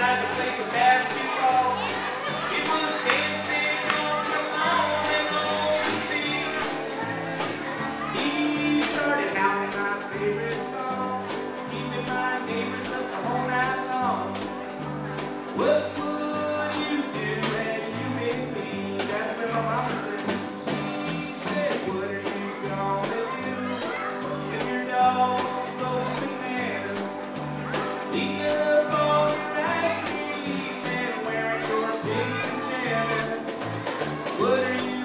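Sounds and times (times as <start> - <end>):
drums steady beat: 0.0 - 35.0
man singing: 0.0 - 35.0.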